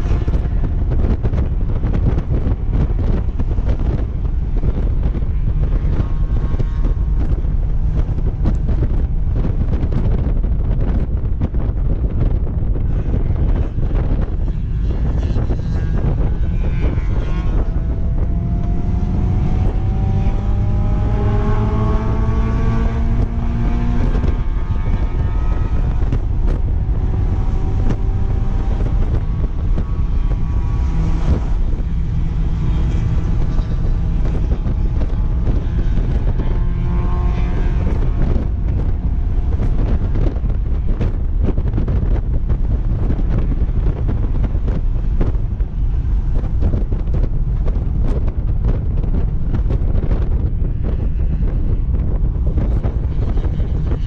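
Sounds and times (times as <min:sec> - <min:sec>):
car engine pulling hard: 0:00.0 - 0:54.0
wind buffeting microphone: 0:00.0 - 0:54.0.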